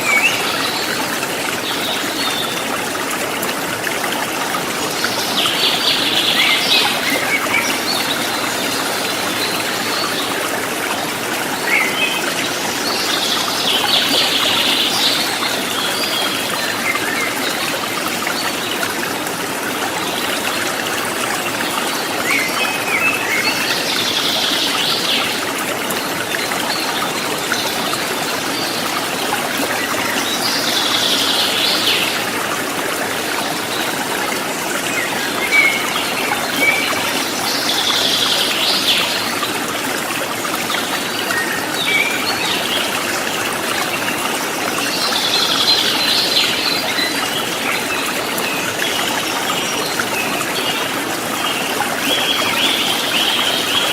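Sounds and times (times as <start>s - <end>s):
river flowing over stones: 0.0s - 53.9s.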